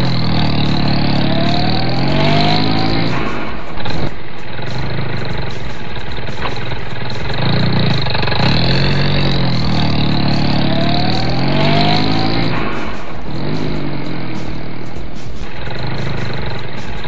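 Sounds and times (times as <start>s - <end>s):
rising whine: 0.0s - 16.5s
vehicle engine revving: 0.0s - 17.0s.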